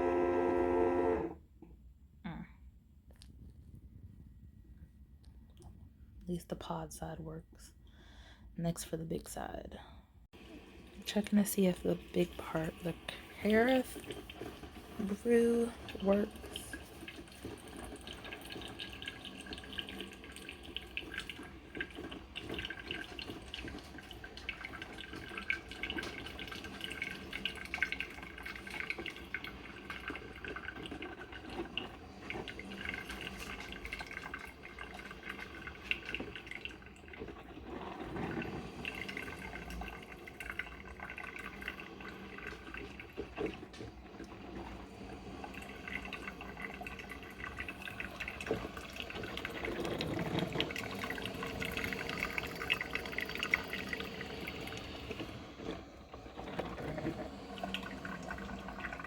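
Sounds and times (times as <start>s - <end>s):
coffee maker crackling: 10.4s - 59.0s
water trickling: 10.4s - 59.0s.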